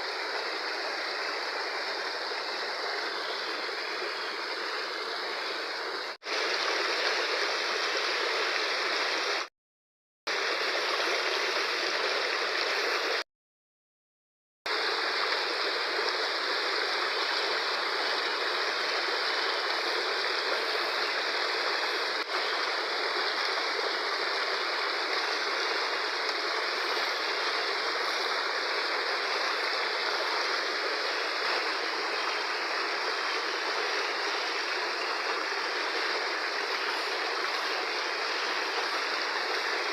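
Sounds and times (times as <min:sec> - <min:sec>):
river rushing: 0:00.0 - 0:09.5, 0:14.7 - 0:39.9.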